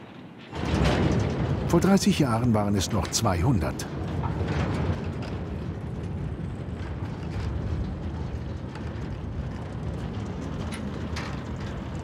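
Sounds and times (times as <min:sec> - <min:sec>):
wagons rolling: 0:00.0 - 0:12.0.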